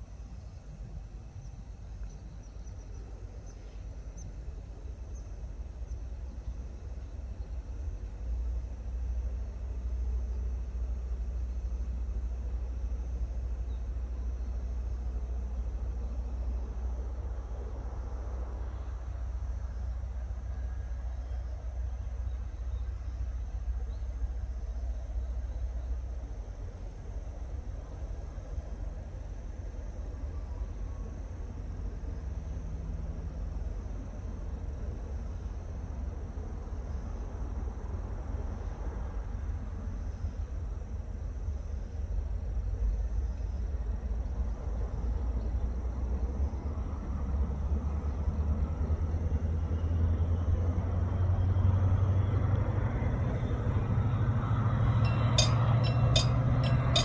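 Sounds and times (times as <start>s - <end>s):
high insect chirping: 0.0s - 57.0s
locomotive engine rumble: 0.0s - 57.0s.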